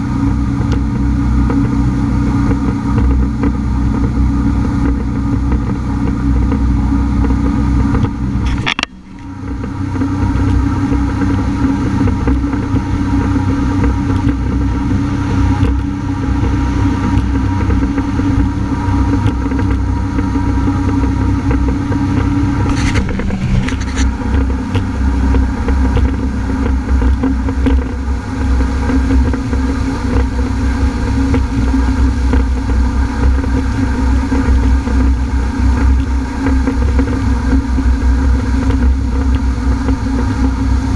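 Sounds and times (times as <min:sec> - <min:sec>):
watercraft engine rumbling: 0:00.0 - 0:40.9.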